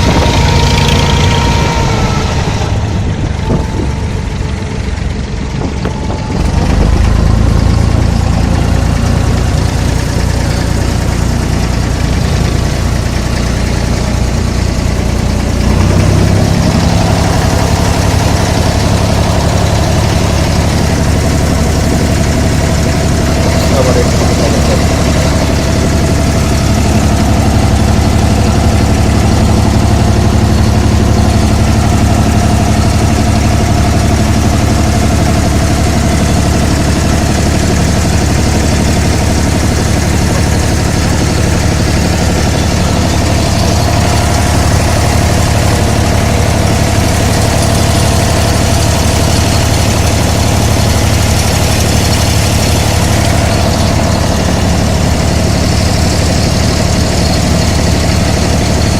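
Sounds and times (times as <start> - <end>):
boat diesel engine running: 0.0 - 58.9.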